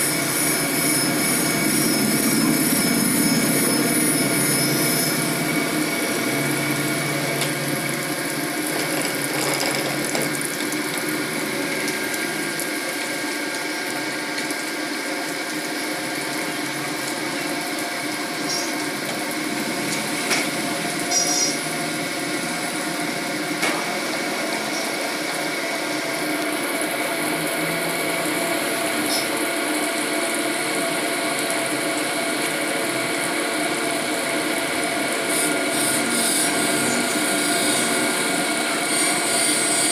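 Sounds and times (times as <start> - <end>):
coolant hiss: 0.0 - 39.9
grinding machine humming: 0.0 - 39.9.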